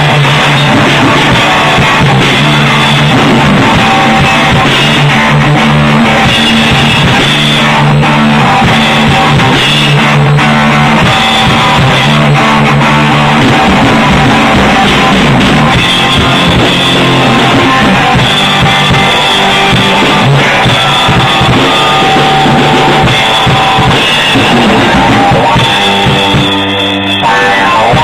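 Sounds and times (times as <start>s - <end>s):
drum kit played hard: 0.0s - 28.0s
loud rock music with guitar: 0.0s - 28.0s.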